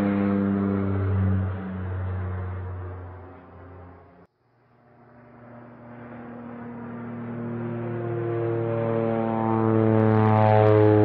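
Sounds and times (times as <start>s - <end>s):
airplane engine drone: 0.0s - 11.0s.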